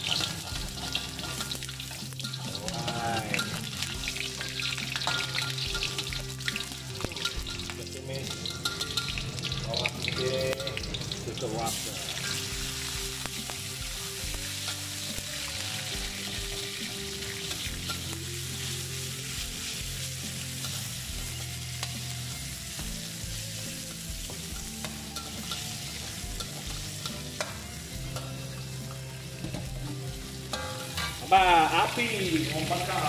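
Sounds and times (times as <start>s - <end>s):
metal spatula scraping wok: 0.0s - 22.6s, 24.3s - 33.0s
food sizzling in hot oil: 0.0s - 33.0s.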